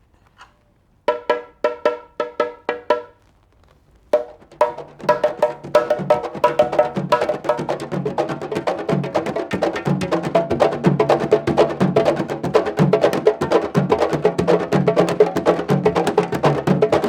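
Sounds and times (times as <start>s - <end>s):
drum strokes: 1.1s - 3.3s, 4.1s - 17.0s.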